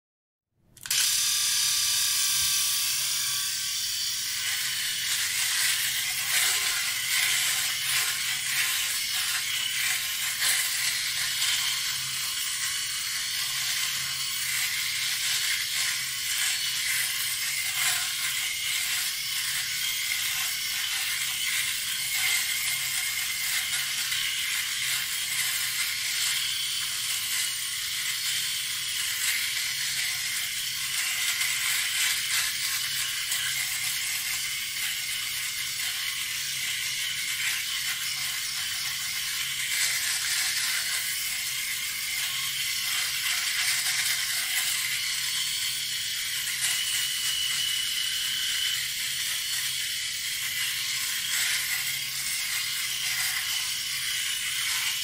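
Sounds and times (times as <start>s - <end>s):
electric shaver motor buzz: 0.8s - 55.0s
crackle of whiskers being cut: 4.4s - 55.0s.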